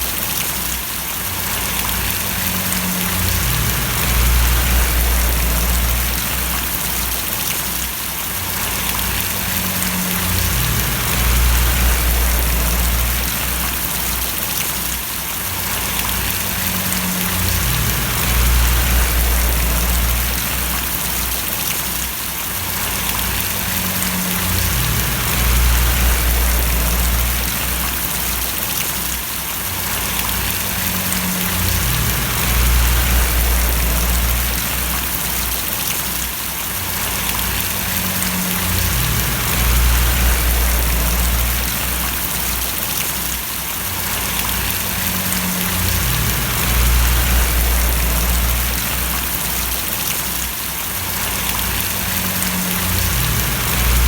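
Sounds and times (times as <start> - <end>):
rain falling and splashing: 0.0 - 54.0
low rumble: 1.6 - 7.5, 8.5 - 14.4, 15.7 - 21.7, 22.7 - 28.6, 29.9 - 35.9, 37.0 - 42.8, 44.2 - 50.0, 51.2 - 54.0.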